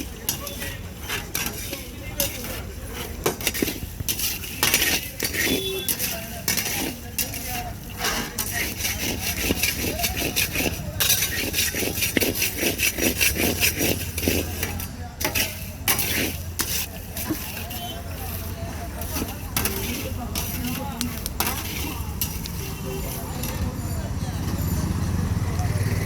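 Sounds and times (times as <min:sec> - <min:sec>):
stirrer scraping metal pan: 0:00.0 - 0:24.1
low street rumble: 0:00.0 - 0:26.0.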